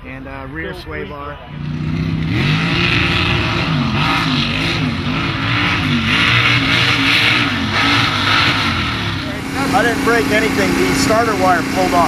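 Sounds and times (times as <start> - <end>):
truck engine revving: 1.4 - 12.0.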